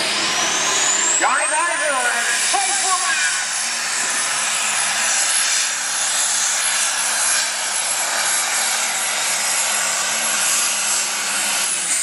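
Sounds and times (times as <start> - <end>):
diesel engine at full load: 0.0 - 12.0.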